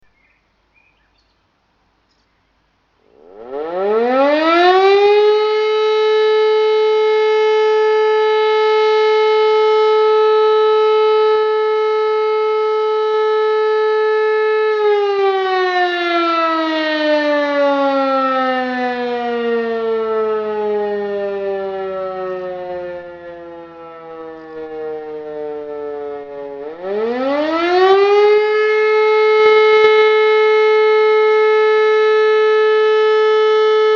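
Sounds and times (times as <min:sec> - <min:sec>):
electric motor siren howling: 0:03.0 - 0:33.9.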